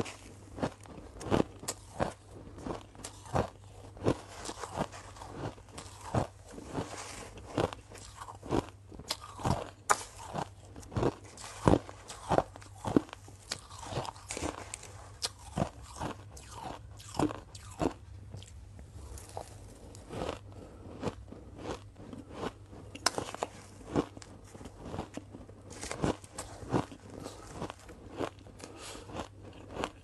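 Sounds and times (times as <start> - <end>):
faint low hum: 0.0 - 30.0
ice being crunched and chewed: 0.0 - 30.0.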